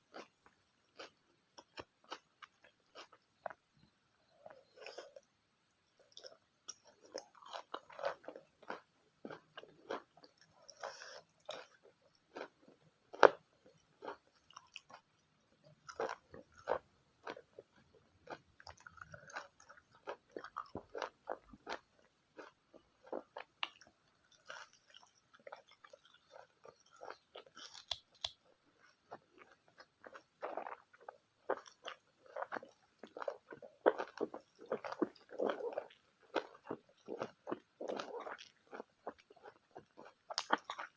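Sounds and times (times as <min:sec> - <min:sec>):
close chewing with wet mouth smacks: 0:00.1 - 0:03.6, 0:06.0 - 0:40.9
food crunching: 0:00.1 - 0:03.6, 0:06.0 - 0:40.9.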